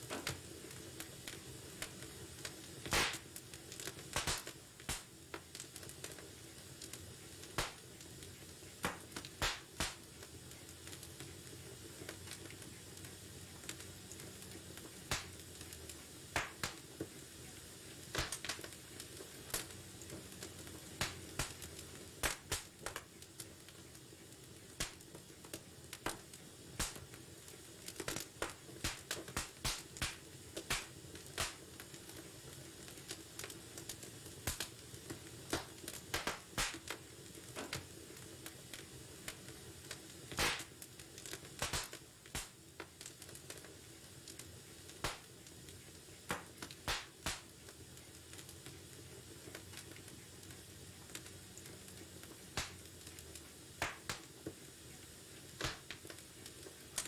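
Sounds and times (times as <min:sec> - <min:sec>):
low hiss of burning logs: 0:00.0 - 0:57.0
wood fire crackling and popping: 0:00.0 - 0:57.0.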